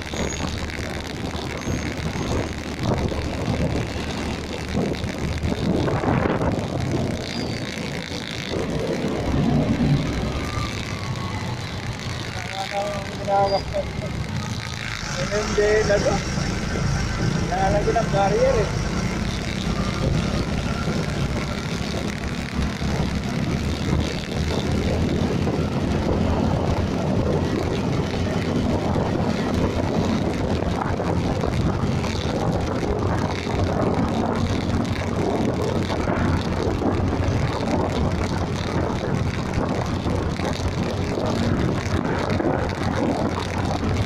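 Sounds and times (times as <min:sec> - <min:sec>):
low engine drone: 0:00.0 - 0:44.0
road and wind noise: 0:00.0 - 0:44.0.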